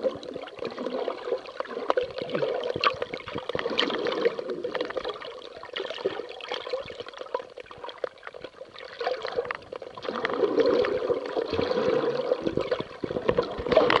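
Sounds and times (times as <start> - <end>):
water gurgling and trickling: 0.0 - 14.0.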